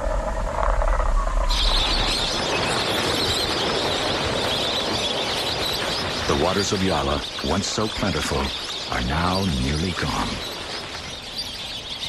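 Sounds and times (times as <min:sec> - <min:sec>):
birds chattering: 0:01.5 - 0:12.0.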